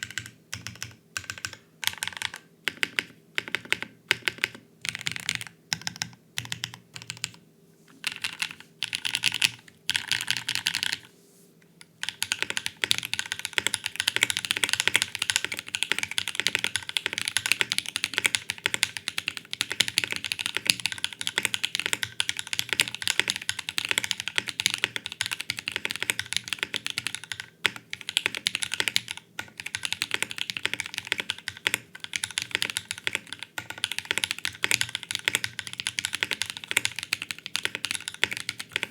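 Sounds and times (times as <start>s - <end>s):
mechanical keyboard typing: 0.0s - 7.4s, 8.0s - 11.1s, 12.0s - 38.9s.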